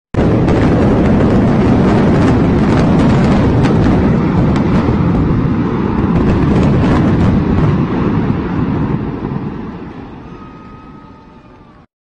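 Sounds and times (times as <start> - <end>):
deep rumble of building collapsing: 0.2 - 10.2.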